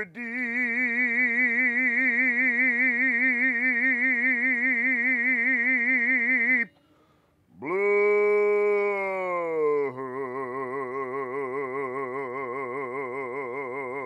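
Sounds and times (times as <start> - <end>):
man singing a held note: 0.0 - 6.8, 7.5 - 14.0.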